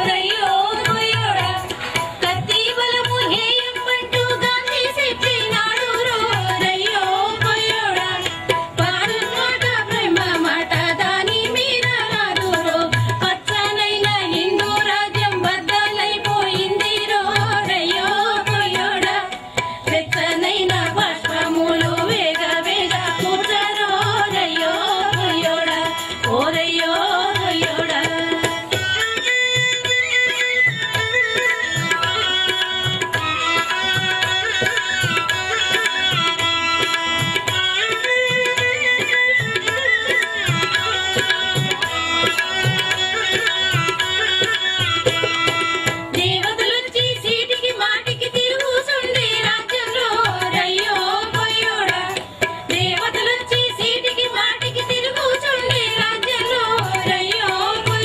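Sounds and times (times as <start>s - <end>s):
women singing together: 0.0s - 29.3s, 39.0s - 58.0s
tabla beat: 0.0s - 58.0s.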